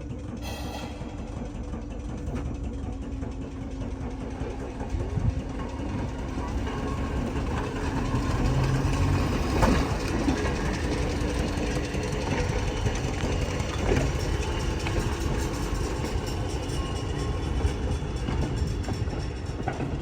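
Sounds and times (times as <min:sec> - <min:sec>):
locomotive engine running: 0:00.0 - 0:20.0.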